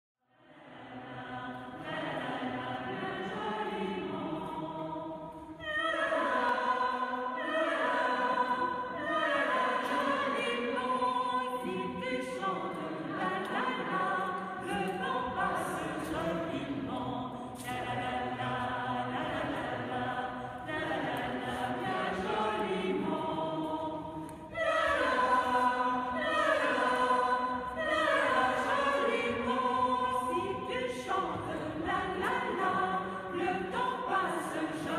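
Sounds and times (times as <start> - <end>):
mixed choir singing: 0.3 - 34.9.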